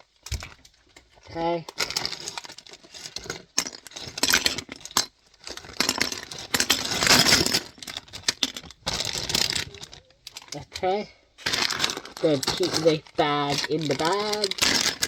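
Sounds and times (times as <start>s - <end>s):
plastic toy bricks clattering: 0.2s - 15.0s.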